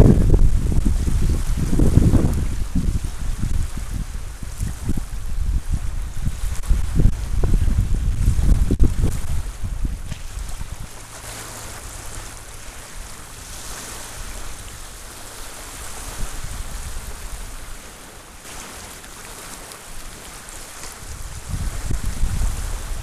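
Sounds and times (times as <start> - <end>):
small waves lapping on shore: 0.0 - 23.0
wind rumble on microphone: 0.0 - 23.0.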